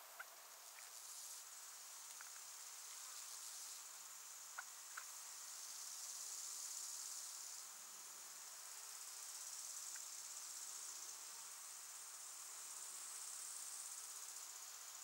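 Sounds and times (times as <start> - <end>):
insect chirring hum: 0.0 - 15.0.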